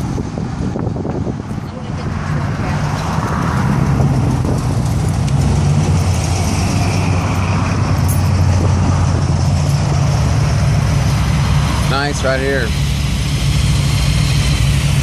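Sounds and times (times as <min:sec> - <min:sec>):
car engines cruising past: 0:00.0 - 0:15.0
road and street noise: 0:00.0 - 0:15.0.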